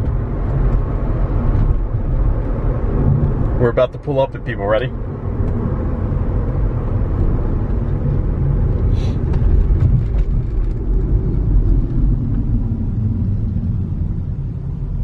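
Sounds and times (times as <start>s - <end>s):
car engine rumble: 0.0s - 15.0s
road noise inside cabin: 0.0s - 15.0s.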